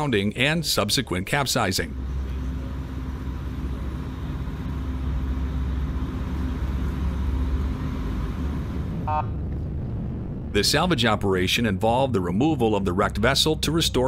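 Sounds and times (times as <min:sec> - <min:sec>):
boat engine rumbling: 0:00.0 - 0:14.0.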